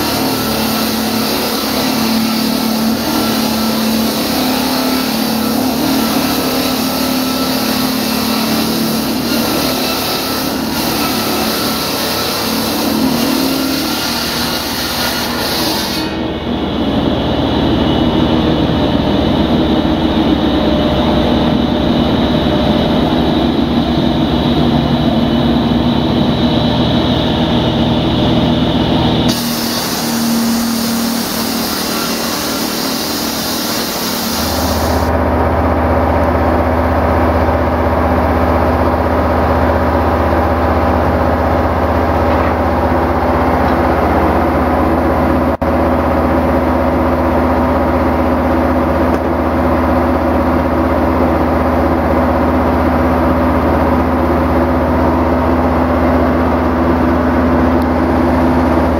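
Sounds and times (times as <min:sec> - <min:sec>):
concrete-cutting equipment running: 0:00.0 - 0:58.9.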